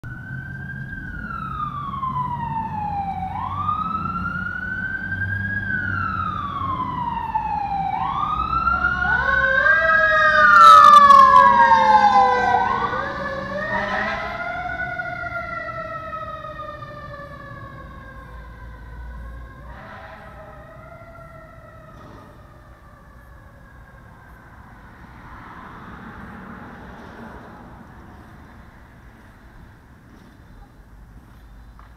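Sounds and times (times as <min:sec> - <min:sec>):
emergency sirens wailing: 0:00.0 - 0:30.0
vehicles passing on road: 0:00.0 - 0:31.9.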